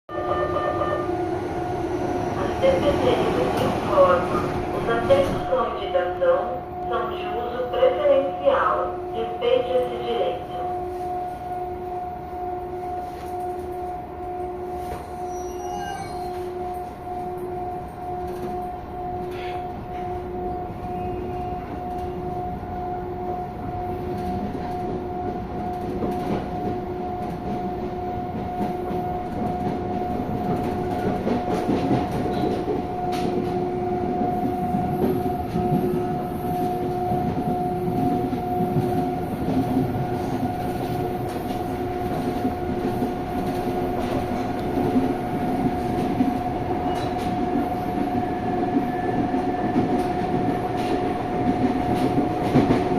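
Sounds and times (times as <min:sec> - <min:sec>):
train wheels rumbling on rail: 0:00.1 - 0:11.5, 0:12.8 - 0:52.9.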